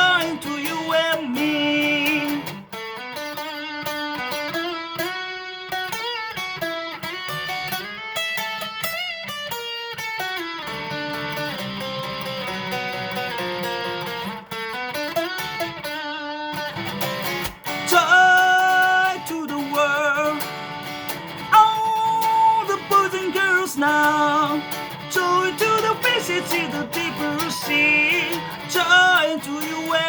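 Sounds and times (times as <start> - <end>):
electric guitar solo: 0.0 - 30.0.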